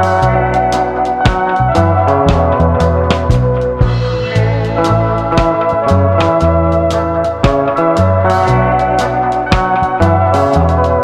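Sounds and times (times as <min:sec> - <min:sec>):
guitar keyboard and drums music: 0:00.0 - 0:11.0.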